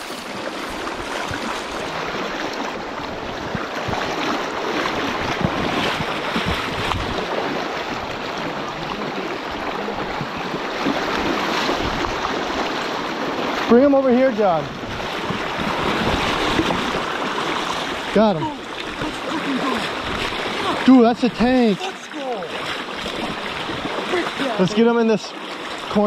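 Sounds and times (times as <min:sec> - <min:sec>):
river water rushing over rocks: 0:00.0 - 0:26.0.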